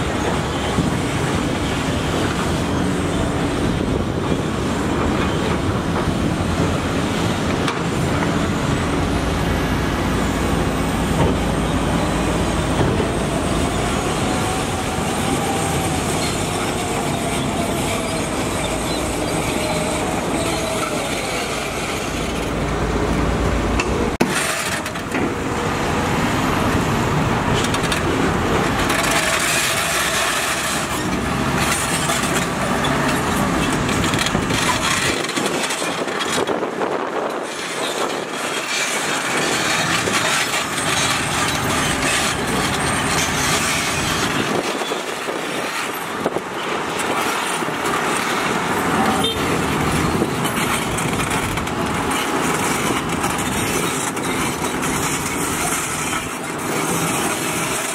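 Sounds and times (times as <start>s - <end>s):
diesel machinery running: 0.0s - 57.9s.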